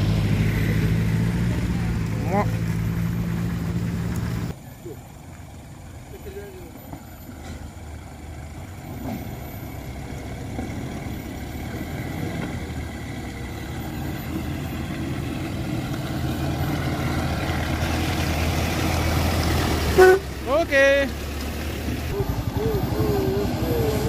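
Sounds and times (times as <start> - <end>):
pickup engine driving through mud: 0.0 - 24.0.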